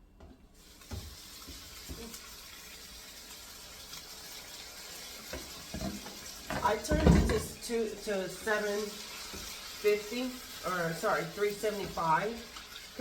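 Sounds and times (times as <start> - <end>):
food sizzling in a pot: 0.5 - 13.0.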